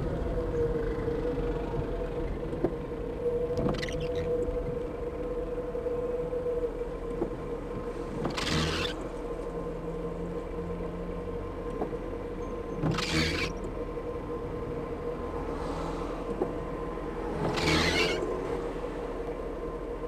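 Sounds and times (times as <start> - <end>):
car engine idling hum: 0.0 - 20.0.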